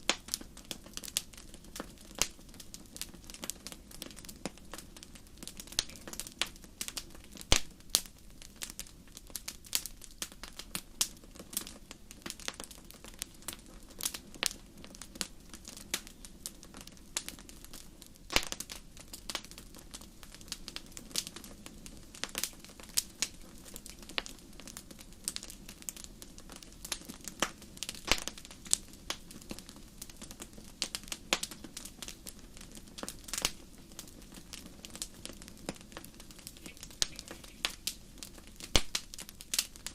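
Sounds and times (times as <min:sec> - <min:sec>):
soft rush of flame: 0:00.0 - 0:39.9
wood fire crackling and popping: 0:00.0 - 0:39.9.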